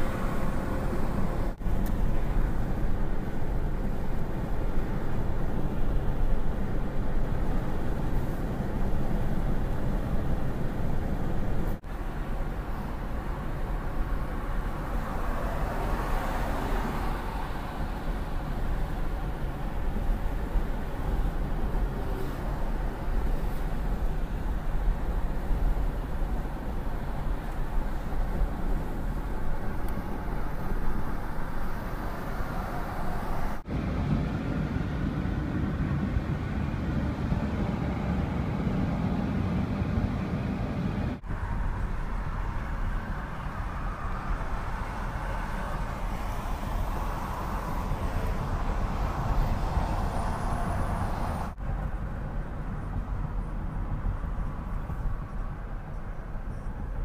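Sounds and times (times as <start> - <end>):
road and engine noise in car: 0.0 - 57.0.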